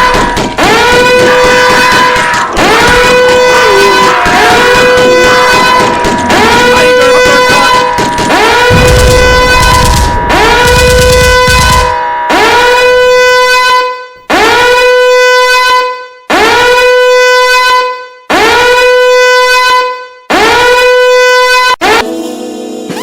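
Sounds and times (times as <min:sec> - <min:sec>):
loud horn blasts: 0:00.0 - 0:22.1.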